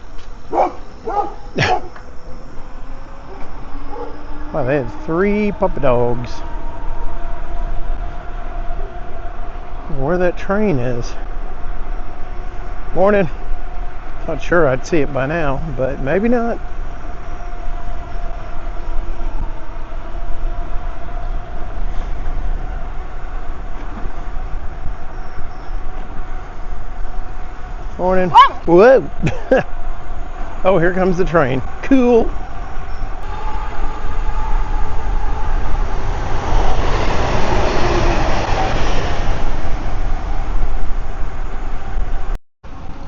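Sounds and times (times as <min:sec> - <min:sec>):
constant whine: 0:00.0 - 0:43.0
electric bike rumbling: 0:00.0 - 0:43.0
train approaching: 0:00.0 - 0:43.0
wind on microphone: 0:02.8 - 0:43.0.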